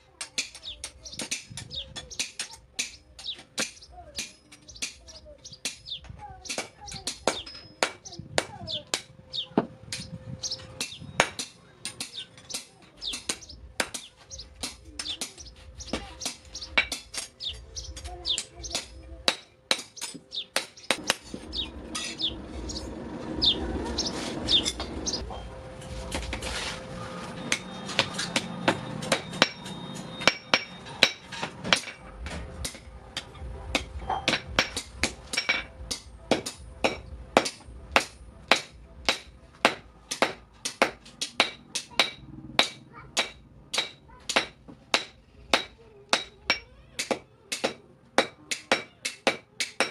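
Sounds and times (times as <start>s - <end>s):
hammer striking metal on anvil: 0.2s - 25.4s, 27.4s - 49.9s.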